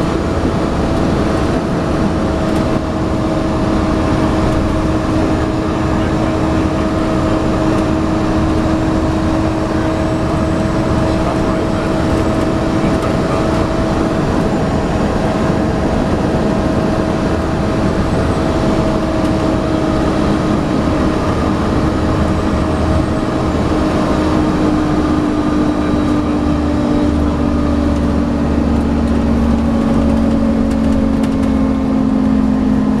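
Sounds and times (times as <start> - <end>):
bus diesel engine whine: 0.0 - 33.0
deep hum: 0.0 - 33.0.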